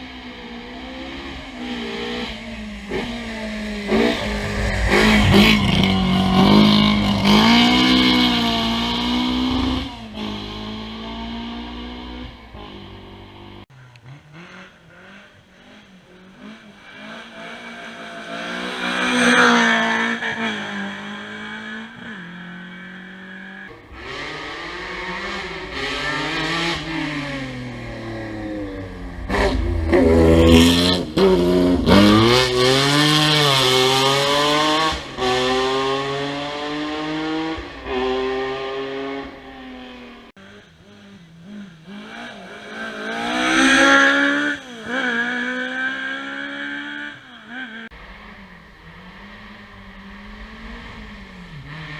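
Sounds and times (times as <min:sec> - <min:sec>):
rally car engines revving past: 0:00.0 - 0:51.9.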